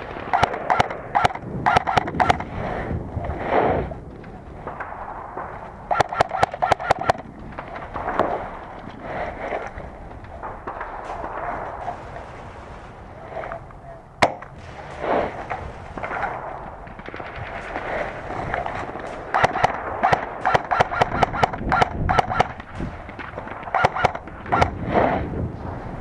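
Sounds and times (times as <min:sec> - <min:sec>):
airsoft guns firing: 0:00.0 - 0:02.6, 0:04.6 - 0:25.1.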